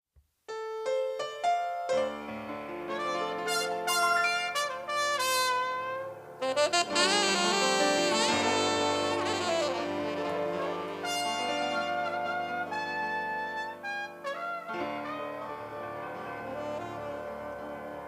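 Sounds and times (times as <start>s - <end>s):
live band playing: 3.0s - 18.0s.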